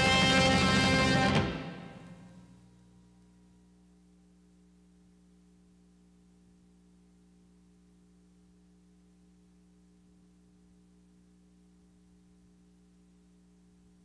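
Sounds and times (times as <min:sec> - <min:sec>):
faint steady hum: 0:00.0 - 0:14.0
tape hiss: 0:00.0 - 0:14.0.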